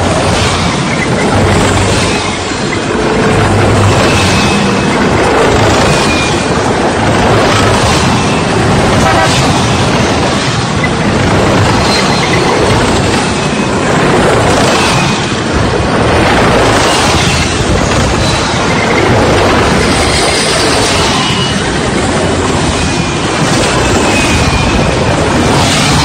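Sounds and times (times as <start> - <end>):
car road and wind noise: 0.0 - 26.0
tanks engines and tracks: 0.0 - 26.0.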